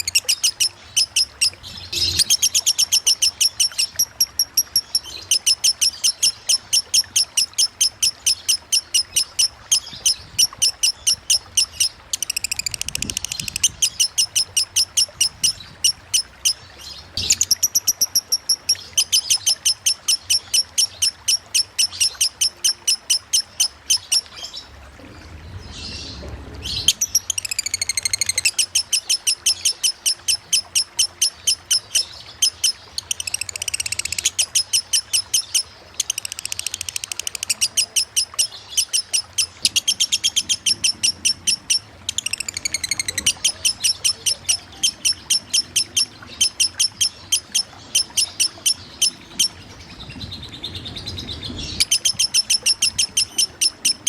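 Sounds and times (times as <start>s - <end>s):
lovebird chattering: 0.0s - 24.6s, 26.7s - 49.8s, 51.4s - 54.0s.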